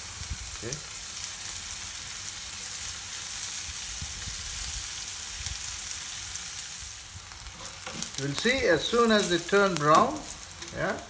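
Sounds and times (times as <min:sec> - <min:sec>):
vegetable slices sizzling in oil: 0:00.0 - 0:11.0.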